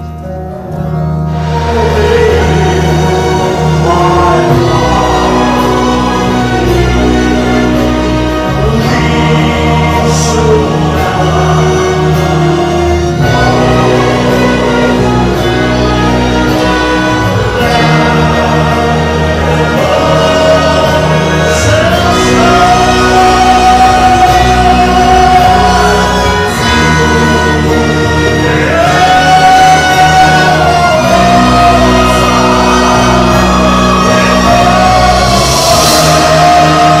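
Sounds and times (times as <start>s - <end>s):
operatic singing: 0.0s - 37.0s
orchestral accompaniment: 0.0s - 37.0s.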